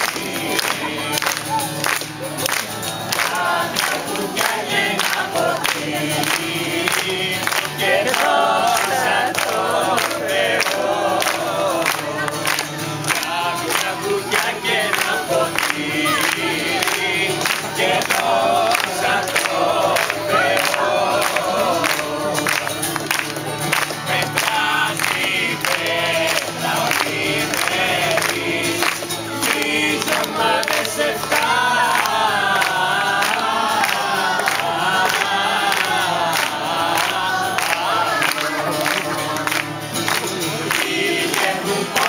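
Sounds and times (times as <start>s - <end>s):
group of voices singing: 0.0s - 42.0s
rhythmic clapping: 0.0s - 42.0s
strummed acoustic guitar: 0.0s - 42.0s.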